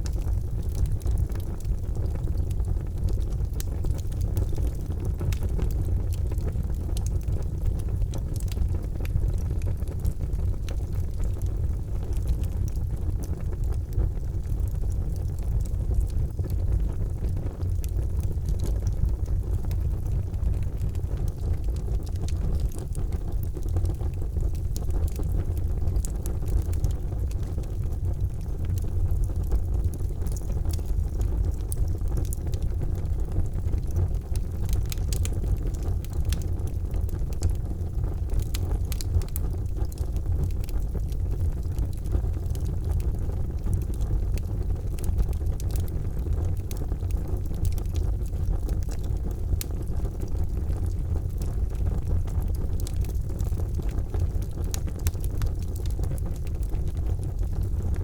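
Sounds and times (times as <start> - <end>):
charcoal fire rumbling: 0.0 - 58.0
fire crackles and pops: 0.0 - 58.0.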